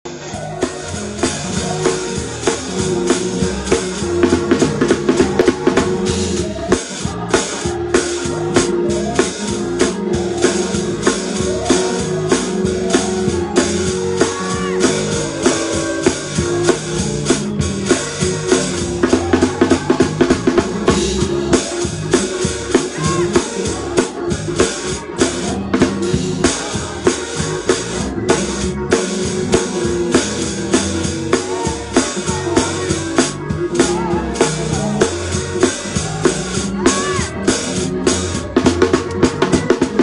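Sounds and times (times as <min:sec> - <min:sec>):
drum kit played fast: 0:00.0 - 0:40.0.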